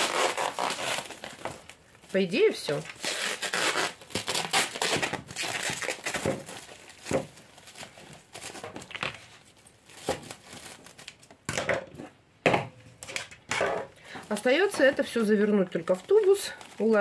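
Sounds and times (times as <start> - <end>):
plastic film crinkling: 0.0 - 11.5, 14.1 - 17.0.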